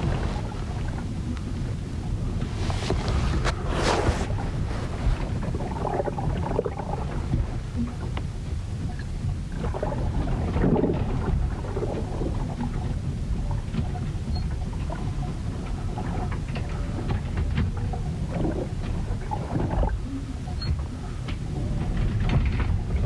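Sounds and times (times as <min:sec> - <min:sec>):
knocks and creaks: 0:00.0 - 0:23.0
washes of water: 0:00.0 - 0:23.0
wind and water against hull: 0:00.0 - 0:23.0.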